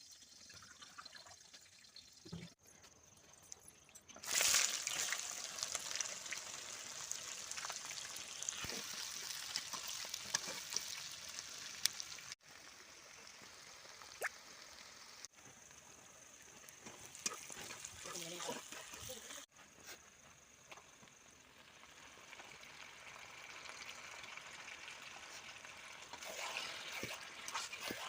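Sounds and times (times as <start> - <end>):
food sizzling in hot oil: 4.1 - 19.5, 20.4 - 28.0.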